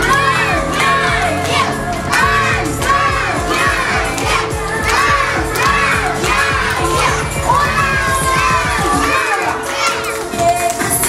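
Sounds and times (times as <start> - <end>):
background music: 0.0 - 11.0
children shouting and cheering: 0.0 - 11.0
clapping: 0.0 - 11.0.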